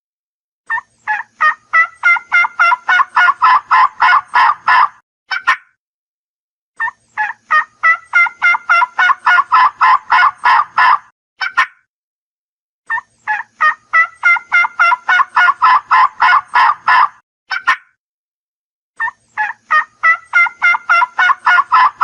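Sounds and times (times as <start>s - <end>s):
turkey gobbling: 0.7s - 5.7s, 6.8s - 11.8s, 12.9s - 17.9s, 19.0s - 22.0s.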